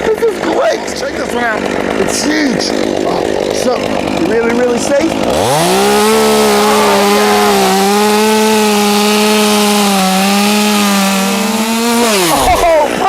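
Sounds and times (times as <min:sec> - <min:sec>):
chainsaw cutting tree limb: 0:00.0 - 0:13.0.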